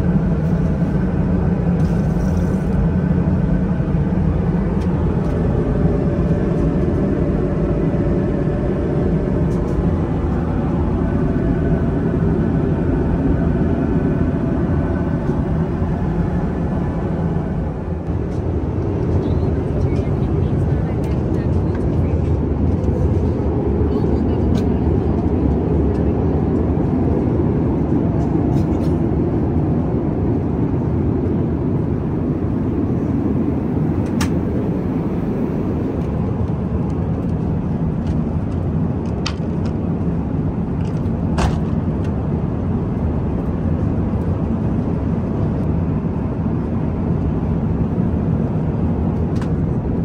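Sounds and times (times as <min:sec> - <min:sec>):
airliner cabin roar: 0:00.0 - 0:50.0.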